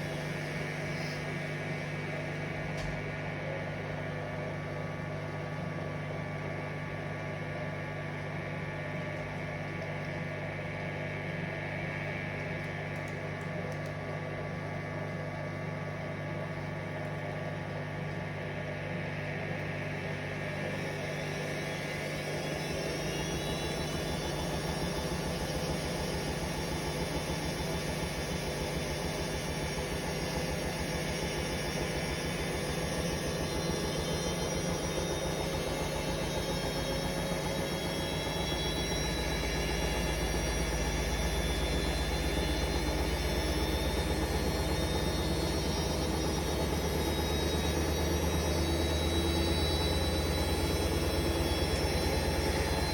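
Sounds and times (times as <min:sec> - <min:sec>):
washing machine spinning: 0:00.0 - 0:52.9.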